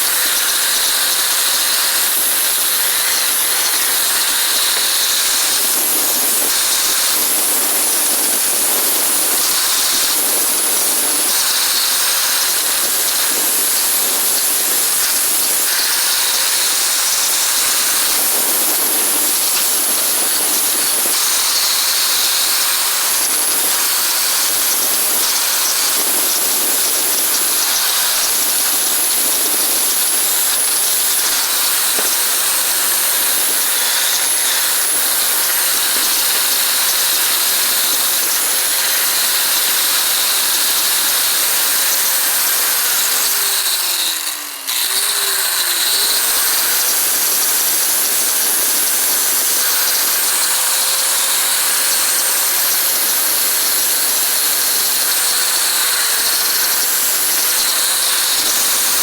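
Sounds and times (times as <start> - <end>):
electric power tool running: 0.0 - 59.0.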